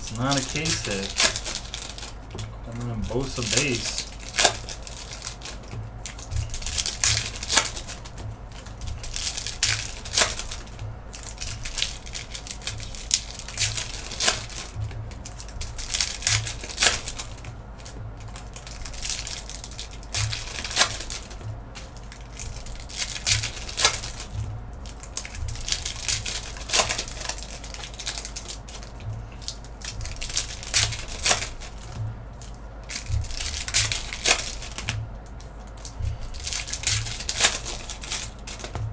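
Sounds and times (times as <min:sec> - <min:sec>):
faint low hum: 0:00.0 - 0:38.9
trading cards rustling and snapping: 0:00.0 - 0:38.9.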